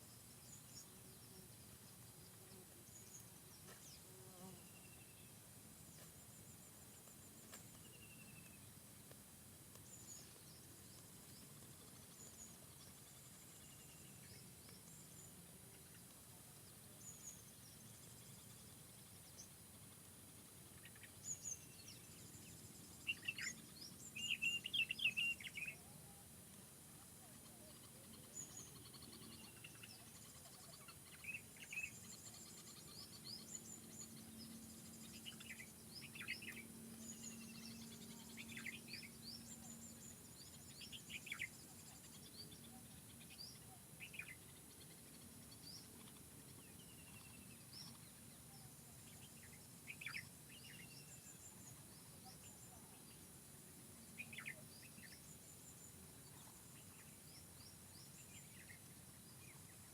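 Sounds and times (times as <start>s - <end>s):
faint forest ambience: 0.0s - 59.9s
songbirds chirping: 0.0s - 59.9s.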